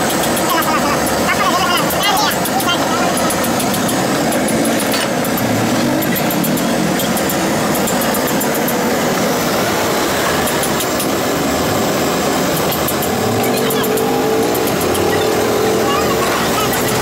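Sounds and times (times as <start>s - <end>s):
steady engine-like drone: 0.0s - 17.0s.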